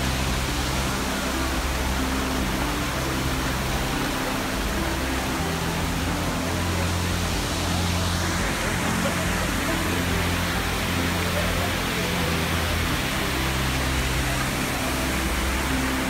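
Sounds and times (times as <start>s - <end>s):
music of held low notes: 0.0s - 16.0s
waterfall rushing: 0.0s - 16.0s.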